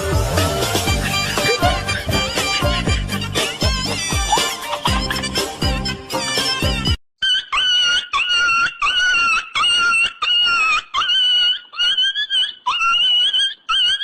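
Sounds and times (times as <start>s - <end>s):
comic high-pitched squeals: 0.0s - 6.5s, 7.2s - 14.0s.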